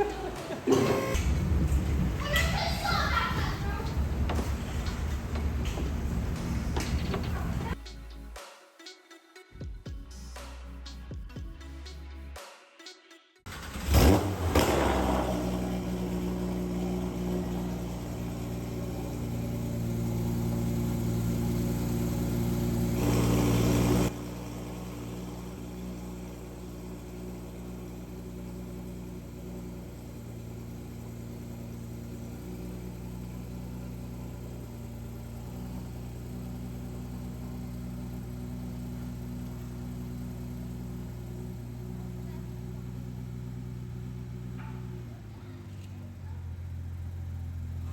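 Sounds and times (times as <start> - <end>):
car engine starting and idling: 0.0 - 7.8, 13.5 - 47.9.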